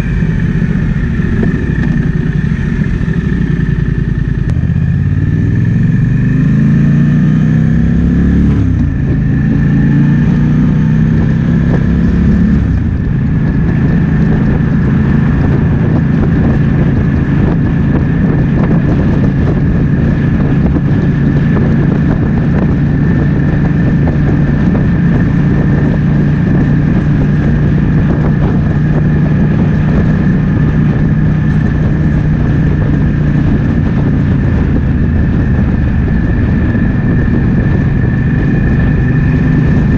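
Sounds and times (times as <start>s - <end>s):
motorcycle engine accelerating: 0.0s - 39.9s
wind rushing: 0.0s - 39.9s.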